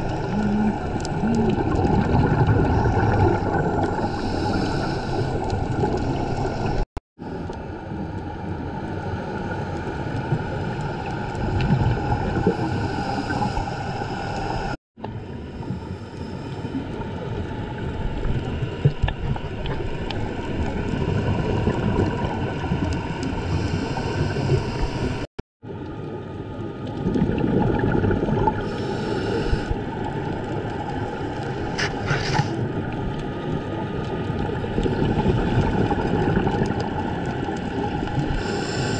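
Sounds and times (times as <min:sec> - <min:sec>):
muffled underwater rumble and hiss: 0:02.4 - 0:25.2, 0:28.6 - 0:38.9.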